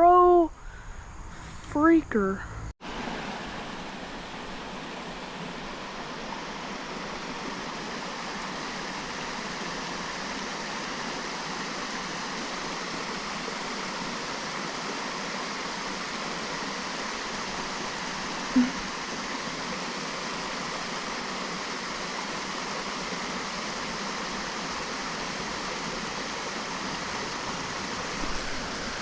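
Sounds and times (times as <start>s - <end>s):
stream water rushing: 2.8s - 29.0s.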